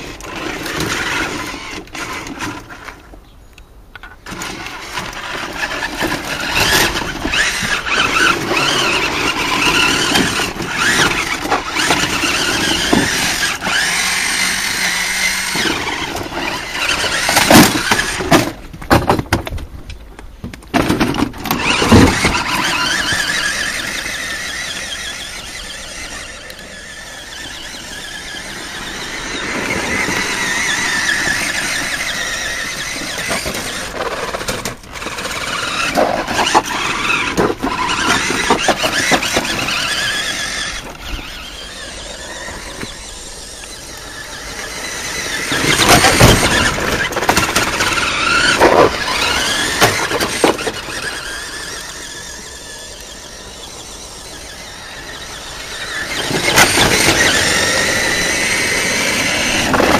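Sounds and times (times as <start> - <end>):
toy truck clattering: 0.0 - 3.2, 3.9 - 19.6, 20.5 - 59.9
toy truck motor whining: 0.0 - 3.2, 4.0 - 18.6, 20.8 - 59.9.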